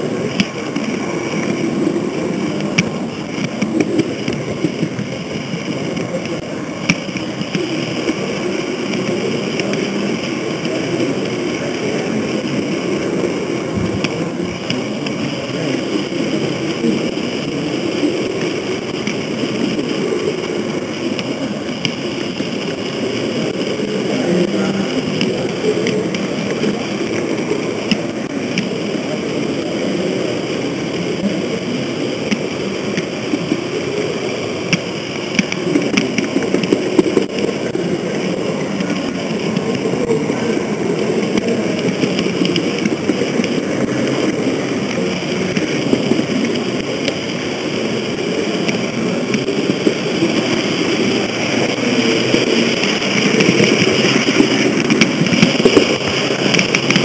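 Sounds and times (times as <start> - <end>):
model train wheels rumbling: 0.0 - 57.0.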